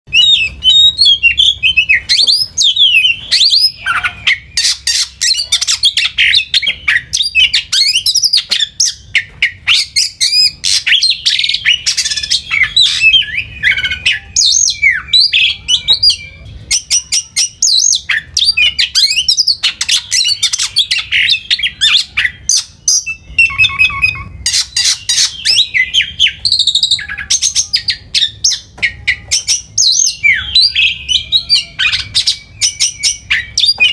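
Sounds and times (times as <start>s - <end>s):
songbird singing chirps and trills: 0.1s - 33.9s.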